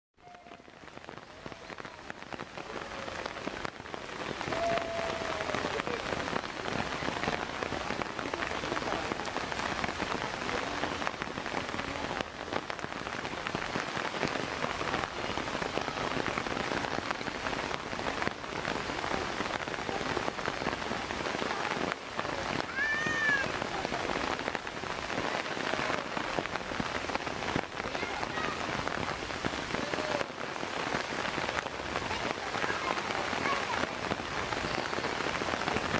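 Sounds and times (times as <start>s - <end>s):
rain pattering on ground: 0.2s - 35.9s.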